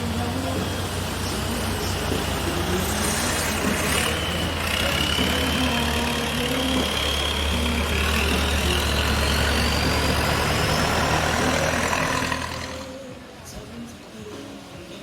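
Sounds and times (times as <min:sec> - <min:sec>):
engine idling hum: 0:00.0 - 0:14.2.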